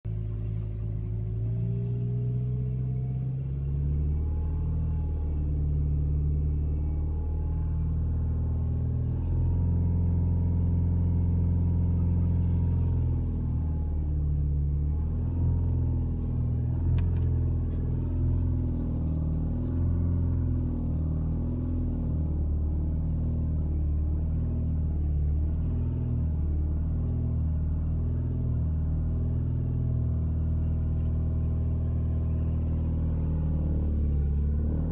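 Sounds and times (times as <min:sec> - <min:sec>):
car engine low rumble: 0:00.0 - 0:34.9.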